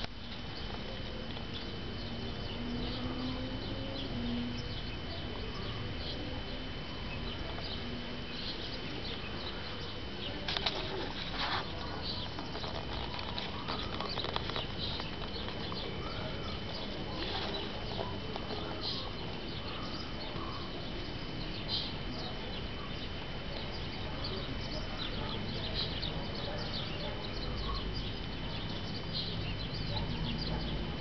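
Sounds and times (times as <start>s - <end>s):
high-pitched whine: 0.0s - 29.7s
background hiss and rumble: 0.0s - 31.0s
bird chirps: 1.5s - 31.0s.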